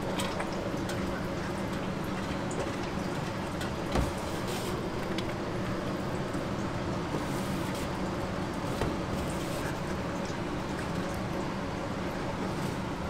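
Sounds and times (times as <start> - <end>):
kitchen machine hum: 0.0 - 13.0.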